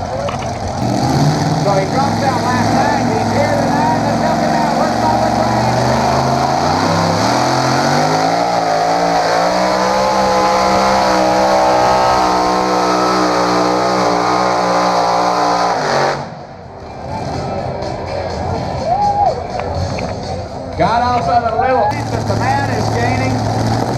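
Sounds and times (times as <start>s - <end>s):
engine howling at full throttle: 0.0s - 17.8s, 21.9s - 23.9s.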